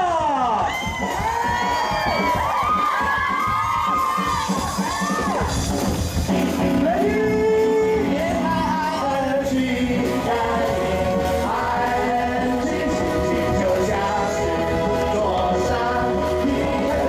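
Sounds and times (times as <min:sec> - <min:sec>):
pop-rock band music: 0:00.1 - 0:17.0.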